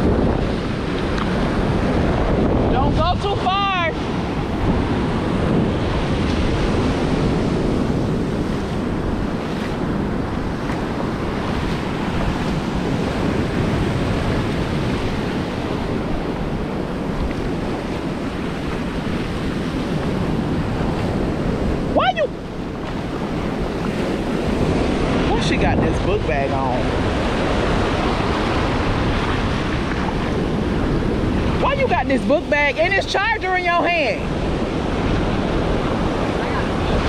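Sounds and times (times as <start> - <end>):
ocean surf breaking on sand: 0.0 - 37.0
wind buffeting microphone: 0.0 - 37.0.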